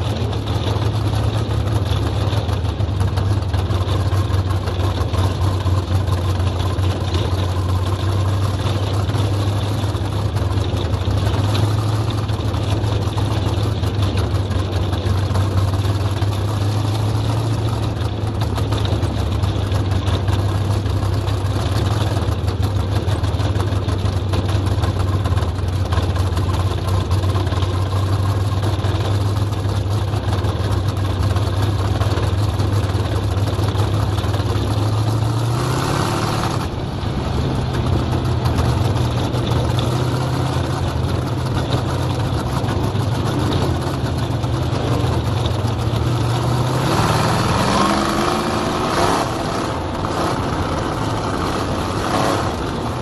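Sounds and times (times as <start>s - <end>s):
race car engine running: 0.0s - 53.0s.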